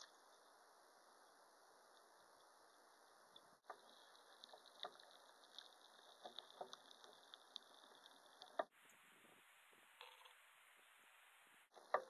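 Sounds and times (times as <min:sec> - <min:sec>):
faint clicks and ticks: 0:00.0 - 0:12.0
faint hiss: 0:00.0 - 0:12.0.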